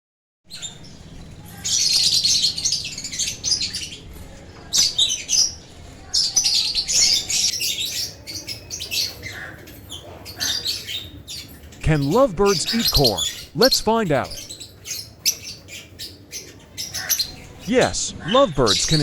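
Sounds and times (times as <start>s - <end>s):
lovebirds chattering: 0.5s - 19.0s.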